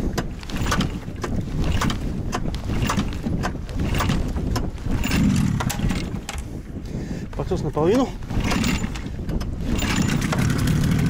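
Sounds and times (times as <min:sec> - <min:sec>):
outboard boat motor idling: 0:00.0 - 0:11.0.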